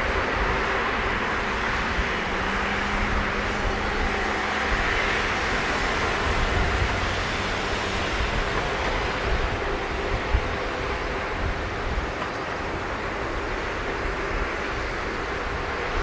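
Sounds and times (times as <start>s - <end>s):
jet engines at taxi power: 0.0s - 16.0s.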